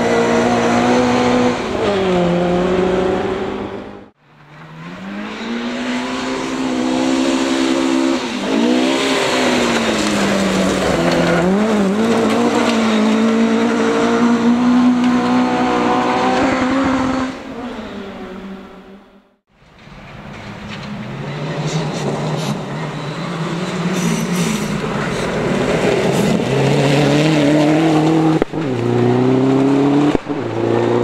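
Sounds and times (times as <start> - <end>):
rally car engine at high revs: 0.0 - 19.2, 21.5 - 31.0.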